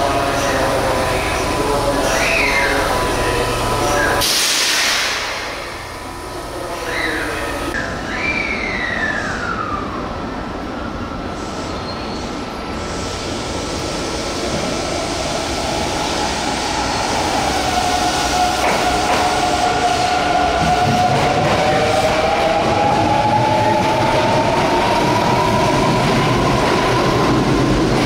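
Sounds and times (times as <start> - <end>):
electric train rumble: 0.0 - 28.0.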